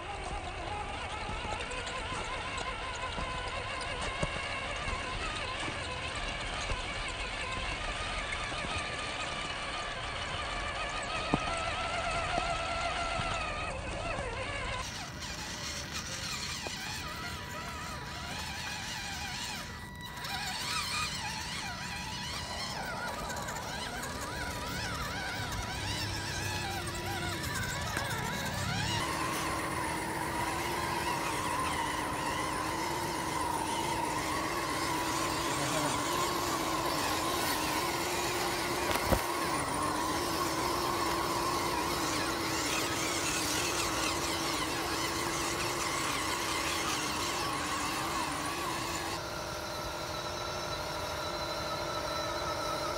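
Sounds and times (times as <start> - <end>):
rc truck motors whining: 0.0 - 52.9.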